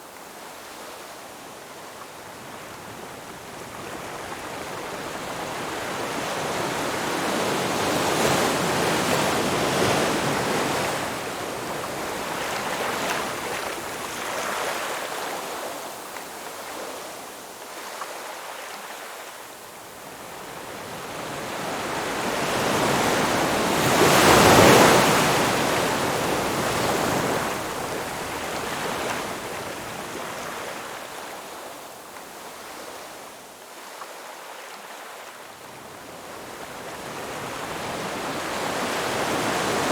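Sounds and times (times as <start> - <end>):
ocean waves breaking on beach: 2.2 - 19.4, 20.0 - 39.9.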